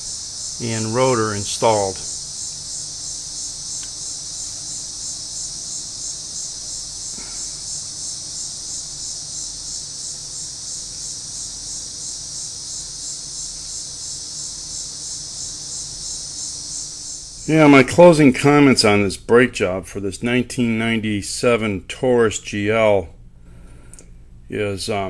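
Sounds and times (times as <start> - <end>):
high-pitched insect chorus: 0.0 - 21.6.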